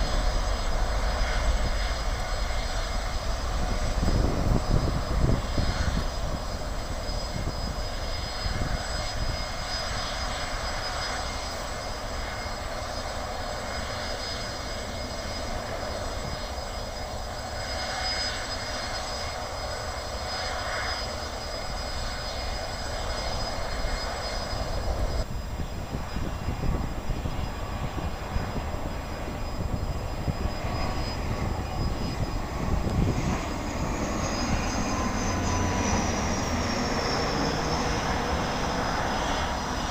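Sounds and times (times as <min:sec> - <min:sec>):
airliner engines rumbling: 0:00.0 - 0:39.9
high engine whine: 0:00.0 - 0:39.9.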